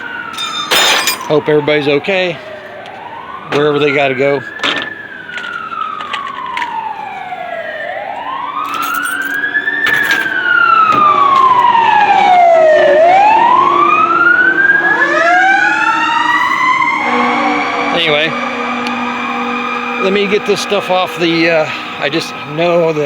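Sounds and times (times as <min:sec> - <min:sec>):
fire engine sirens wailing: 0:00.0 - 0:23.0.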